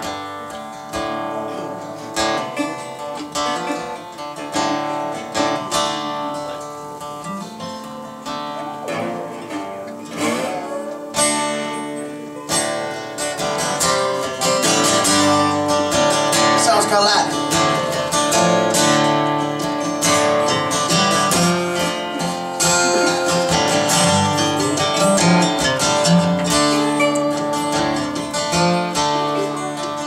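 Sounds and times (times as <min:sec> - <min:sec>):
picked resonator guitar: 0:00.0 - 0:30.0
strummed acoustic guitars: 0:00.0 - 0:30.0.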